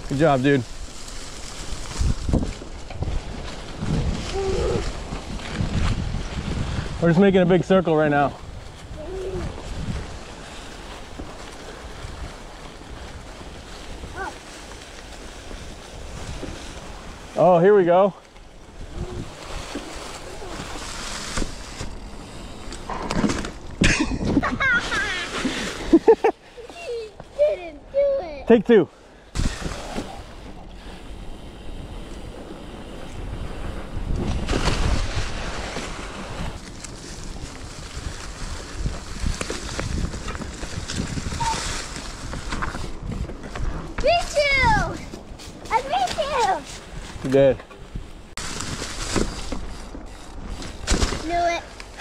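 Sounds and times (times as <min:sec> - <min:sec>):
wind buffeting microphone: 0:00.0 - 0:17.4, 0:18.5 - 0:28.4, 0:29.1 - 0:52.0
bike tyres crackling on leaves: 0:00.0 - 0:52.0.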